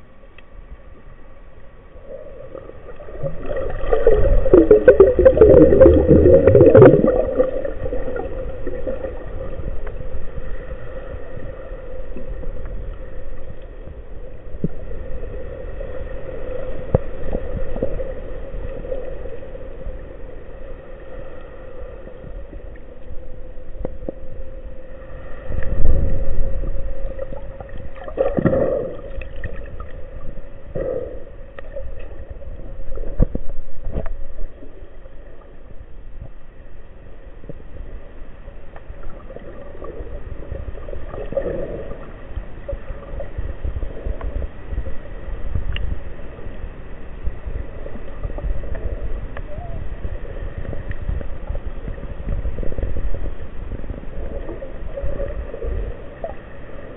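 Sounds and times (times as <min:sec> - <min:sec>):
rushing water underwater: 0:00.0 - 0:56.9
underwater hum: 0:00.0 - 0:56.9.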